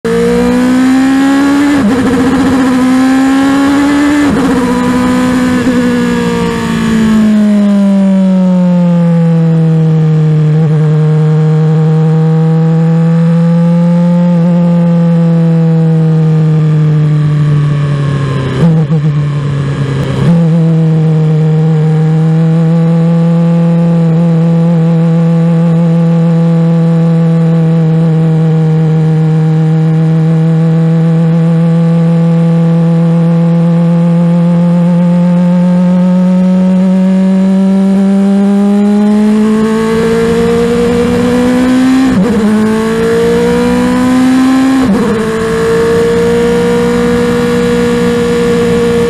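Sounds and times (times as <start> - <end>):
racing car engine revving: 0.1 - 49.0.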